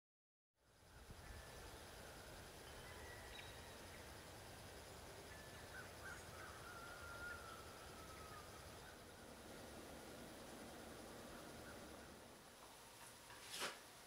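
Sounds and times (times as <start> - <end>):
bird chirps: 0.8 - 12.3.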